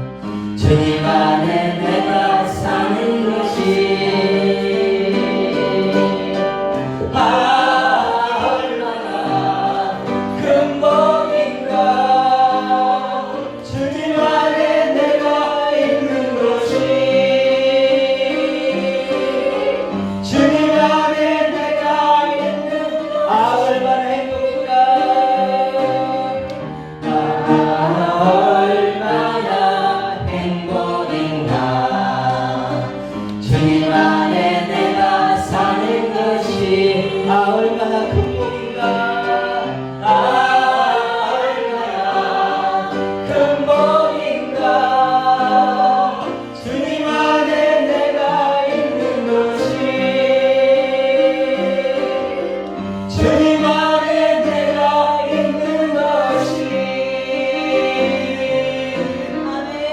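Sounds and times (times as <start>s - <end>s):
group of people singing: 0.0s - 59.9s
musical backing: 0.0s - 59.9s.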